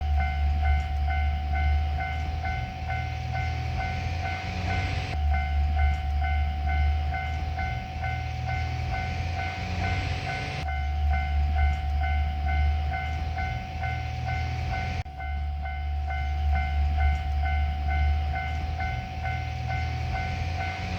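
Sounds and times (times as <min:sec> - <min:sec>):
electronic crossing bell dinging: 0:00.0 - 0:20.9
steady low rumble: 0:00.0 - 0:20.9.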